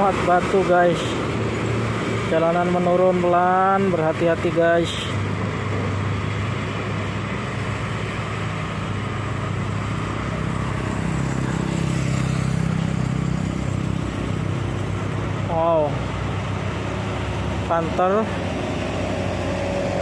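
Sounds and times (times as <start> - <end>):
motorcycles passing: 0.0 - 20.0
truck engines: 0.0 - 20.0.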